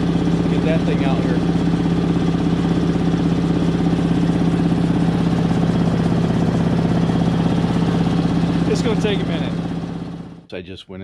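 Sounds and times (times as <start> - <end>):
air compressor pulsing hum: 0.0 - 10.5.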